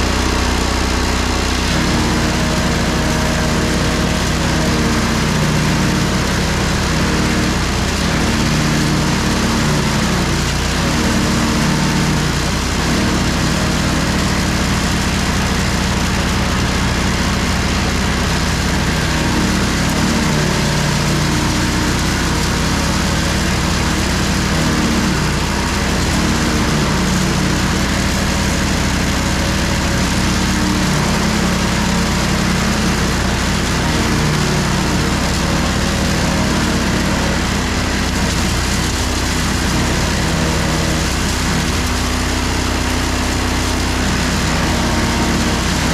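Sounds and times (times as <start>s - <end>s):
wood chipper engine running: 0.0s - 45.9s.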